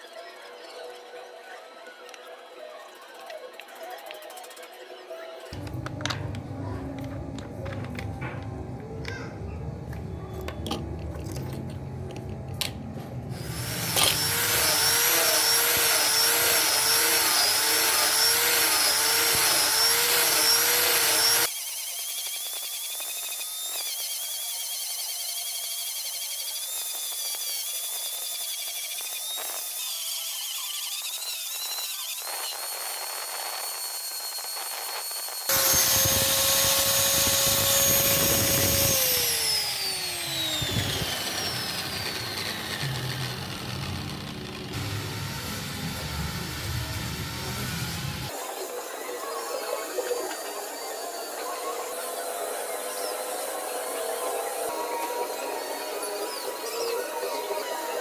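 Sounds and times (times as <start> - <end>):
electric power tool whining: 5.5 - 9.2, 9.9 - 58.0.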